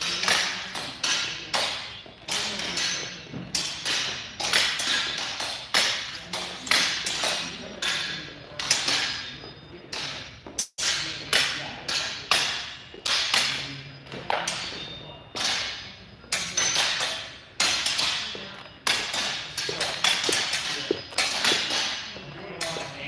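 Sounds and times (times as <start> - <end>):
practice swords clacking: 0.0 - 23.0.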